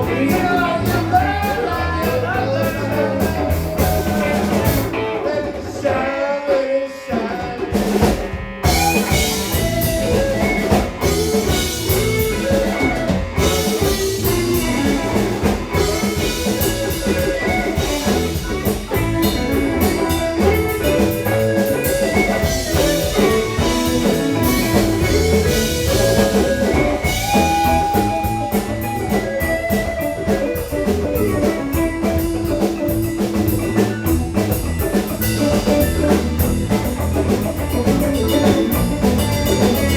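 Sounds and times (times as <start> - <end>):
drum kit: 0.0 - 39.9
guitar: 0.0 - 39.9
live band playing blues rock: 0.0 - 39.9.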